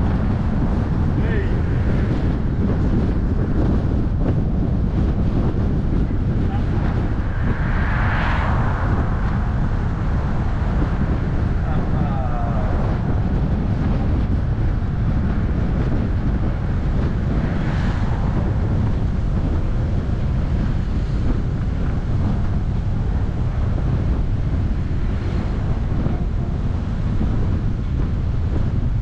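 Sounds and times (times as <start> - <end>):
car rumbling along road: 0.0 - 29.0
wind buffeting microphone: 0.0 - 29.0.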